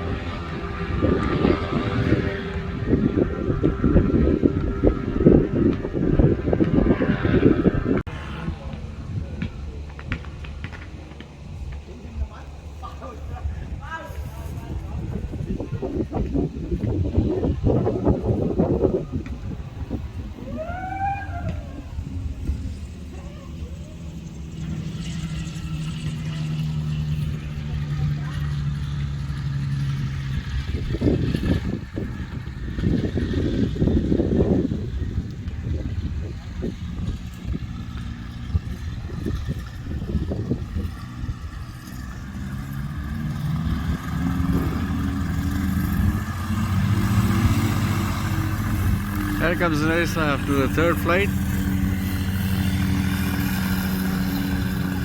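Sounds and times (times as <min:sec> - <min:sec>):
engine drone: 0:00.0 - 0:55.0
wind rumble on microphone: 0:00.0 - 0:55.0.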